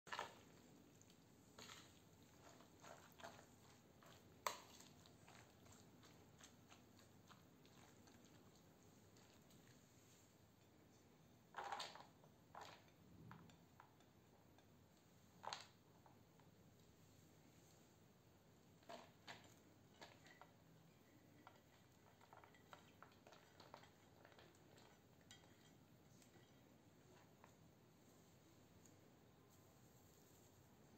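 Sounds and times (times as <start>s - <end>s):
spoon stirring wet salad: 0.1s - 10.8s, 11.4s - 17.0s, 18.6s - 29.0s.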